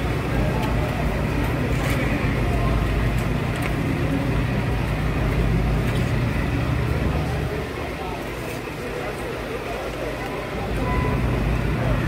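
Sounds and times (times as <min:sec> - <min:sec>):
low engine-like rumble: 0:00.0 - 0:12.0.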